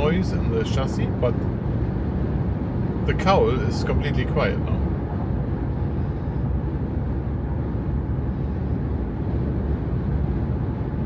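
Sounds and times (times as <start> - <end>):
road and wind noise in car cabin: 0.0 - 11.0.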